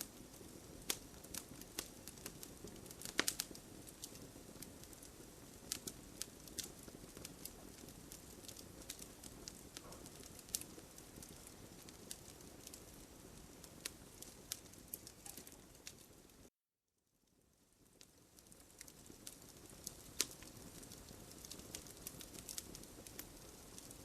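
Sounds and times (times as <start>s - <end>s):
wood fire crackling: 0.0s - 16.5s, 17.3s - 24.0s.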